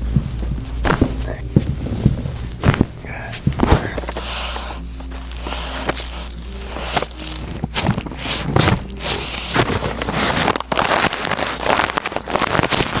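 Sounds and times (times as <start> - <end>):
rustling and bumping: 0.0 - 13.0.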